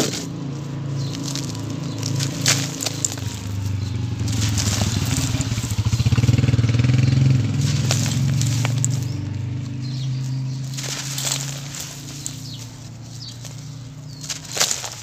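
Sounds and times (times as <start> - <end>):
low engine hum: 0.0 - 15.0
sand-cement clumps crumbling: 0.0 - 15.0
sharp crackles: 0.0 - 15.0.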